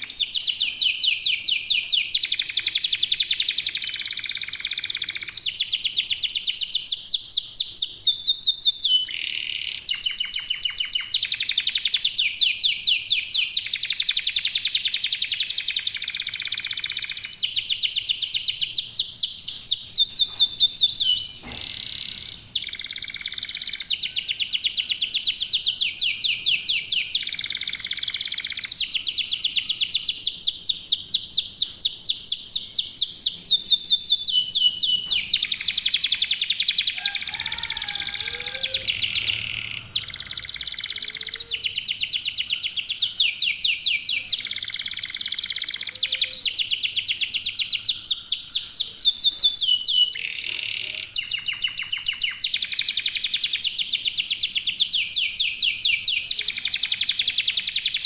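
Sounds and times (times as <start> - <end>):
canaries singing in trills: 0.0 - 58.0.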